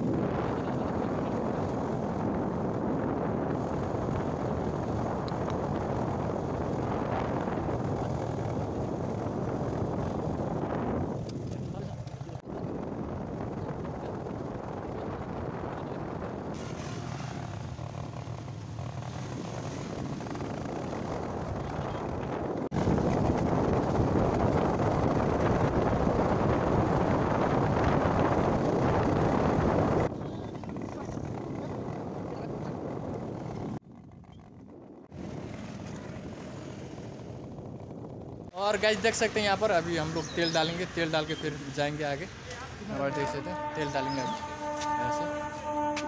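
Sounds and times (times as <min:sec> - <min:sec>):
road noise: 0:00.0 - 0:46.0
wind noise on microphone: 0:00.0 - 0:46.0
motorcycle engine running: 0:00.2 - 0:38.5.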